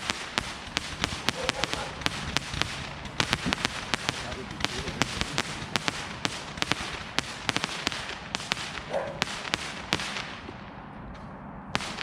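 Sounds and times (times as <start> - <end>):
fireworks cracking and popping: 0.0 - 10.6, 11.8 - 12.0
crackling hiss: 0.0 - 10.7.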